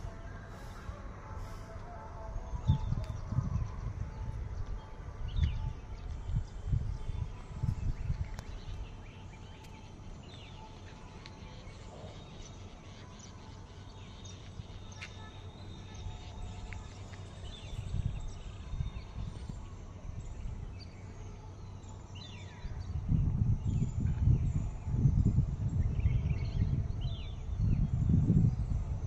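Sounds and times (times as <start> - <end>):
low rumble on microphone: 0.0 - 29.0.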